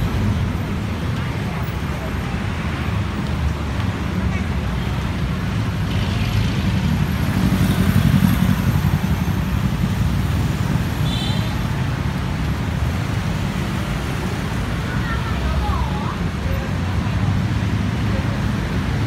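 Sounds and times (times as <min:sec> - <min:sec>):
rumble of cars in road: 0:00.0 - 0:19.0.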